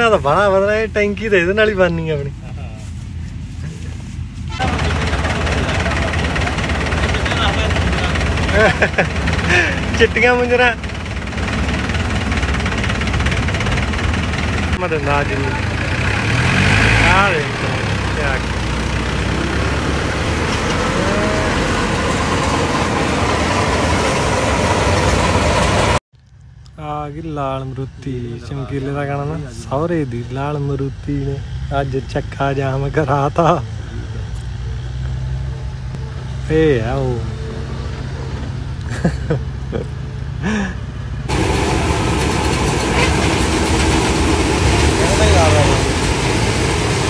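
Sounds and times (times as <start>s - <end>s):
combine harvester working: 0.0s - 26.7s, 33.4s - 47.0s
tractor diesel engine running: 0.0s - 47.0s.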